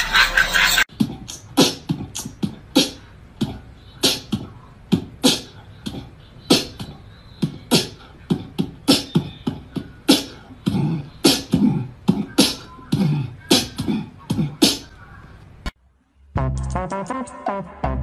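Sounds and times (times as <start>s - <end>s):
beatboxing: 0.0s - 15.7s.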